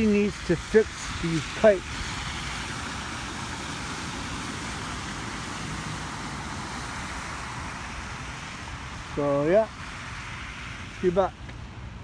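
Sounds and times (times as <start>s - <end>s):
tyres hissing through water: 0.0s - 11.4s.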